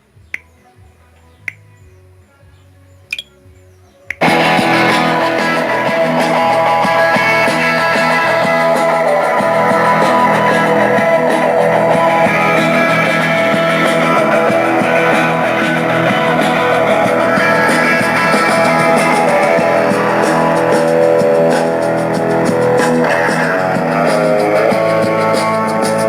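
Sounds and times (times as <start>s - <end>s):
guitar rock music through speakers: 4.2s - 26.0s.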